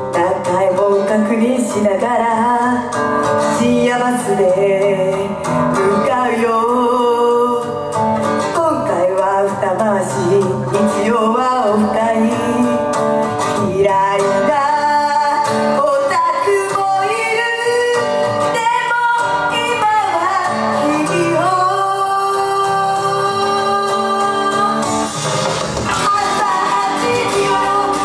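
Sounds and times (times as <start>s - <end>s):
woman singing into microphone: 0.0s - 25.2s, 25.8s - 28.0s
pop accompaniment: 0.0s - 28.0s.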